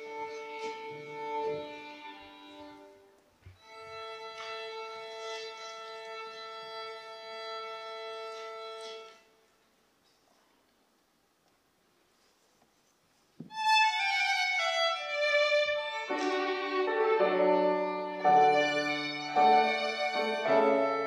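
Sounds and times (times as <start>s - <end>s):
solo violin bowed: 0.0s - 9.3s, 13.4s - 21.0s.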